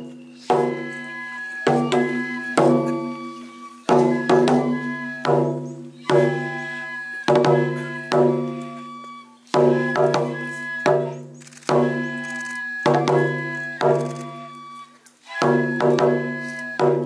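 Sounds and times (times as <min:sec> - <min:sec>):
barrel drum beats: 0:00.0 - 0:14.7, 0:15.3 - 0:17.0.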